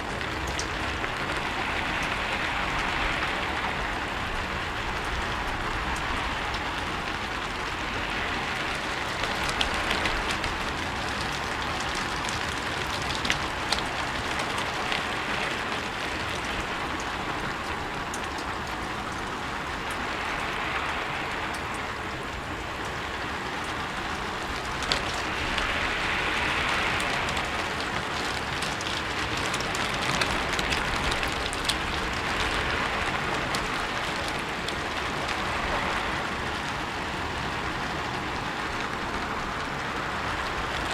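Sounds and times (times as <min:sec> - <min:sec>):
rain on a rooftop: 0:00.0 - 0:40.9
sharp drips and ticks: 0:00.0 - 0:40.9.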